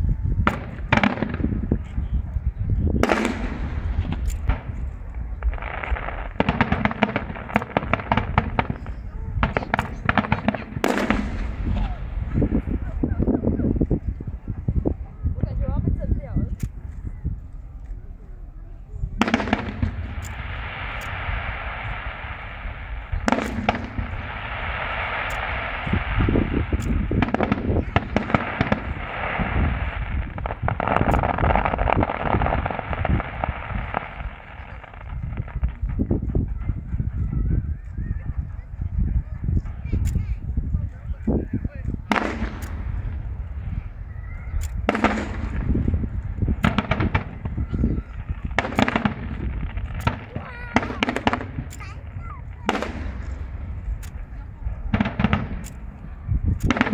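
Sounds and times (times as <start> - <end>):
fireworks booming: 0.0 - 16.8, 19.0 - 56.9
sharp fireworks bangs: 0.0 - 16.8, 19.1 - 56.9
fireworks crackling: 0.0 - 56.9
steady low rumble: 0.0 - 56.9.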